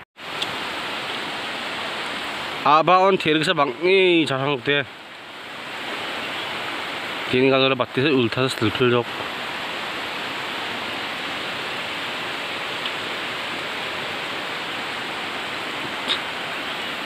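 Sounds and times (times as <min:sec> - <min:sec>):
water hissing: 0:00.2 - 0:17.0.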